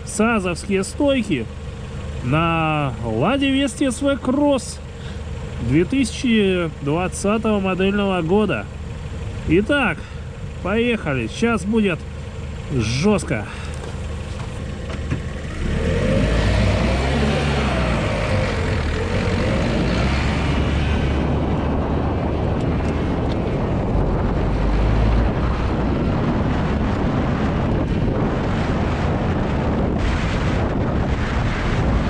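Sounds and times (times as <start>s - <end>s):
road and tyre rumble: 0.0s - 32.0s.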